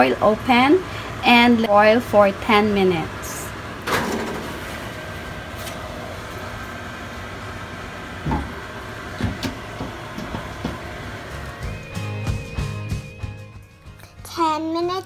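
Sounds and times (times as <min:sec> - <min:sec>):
steady hum: 0:00.0 - 0:14.4.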